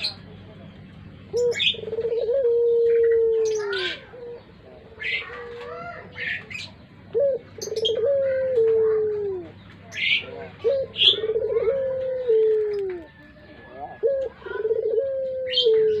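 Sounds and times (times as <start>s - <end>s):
small birds chirping: 0.0s - 16.0s
dove cooing: 1.2s - 16.0s.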